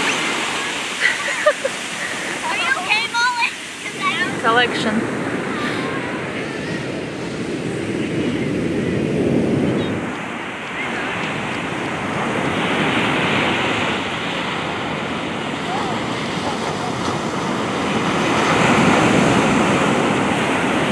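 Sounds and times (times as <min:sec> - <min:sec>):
ocean surf breaking: 0:00.0 - 0:20.9.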